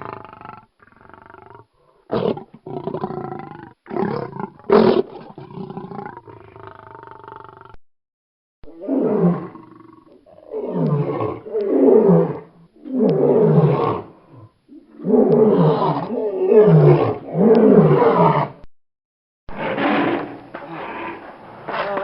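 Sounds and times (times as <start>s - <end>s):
lion roaring: 0.0s - 7.8s, 8.7s - 18.7s, 19.5s - 22.0s.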